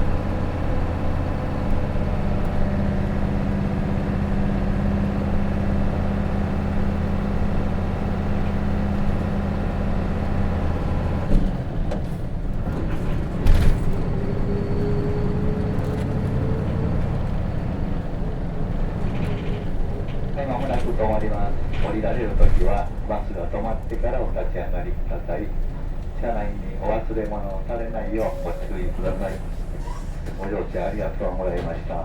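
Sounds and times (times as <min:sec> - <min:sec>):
bus diesel engine pulling: 0:00.0 - 0:32.0.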